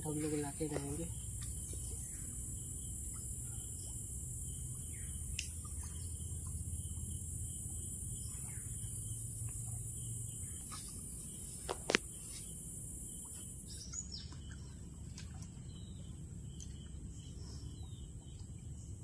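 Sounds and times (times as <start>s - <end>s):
bird chirps: 0.0s - 18.9s
high insect drone: 0.0s - 19.0s
steady insect tone: 0.0s - 19.0s.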